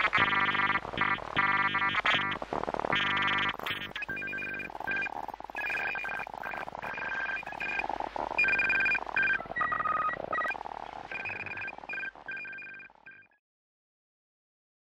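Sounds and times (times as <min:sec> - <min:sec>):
stuttering high electronic tones: 0:00.0 - 0:12.9.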